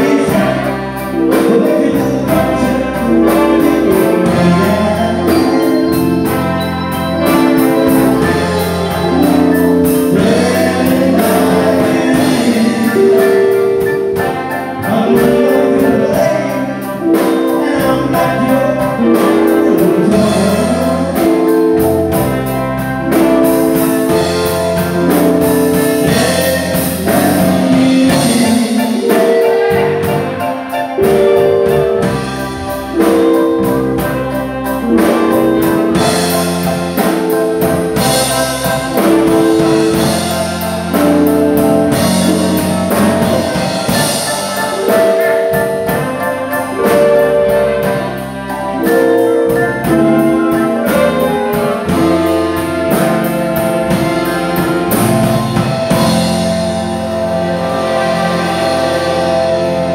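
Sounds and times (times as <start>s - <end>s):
drum kit: 0.0s - 59.9s
electric bass guitar: 0.0s - 59.9s
horn section playing riffs: 0.0s - 59.9s.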